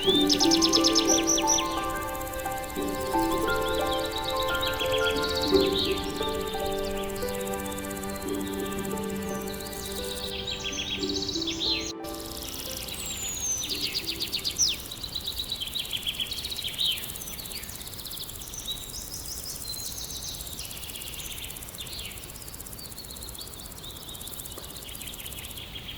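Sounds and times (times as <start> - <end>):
songbirds chirping and trilling: 0.0 - 25.9
steady outdoor hiss: 0.0 - 25.9.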